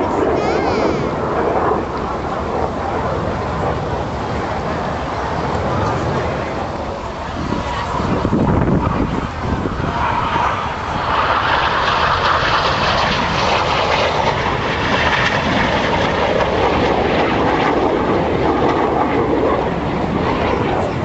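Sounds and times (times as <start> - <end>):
jets flying by: 0.0 - 21.0.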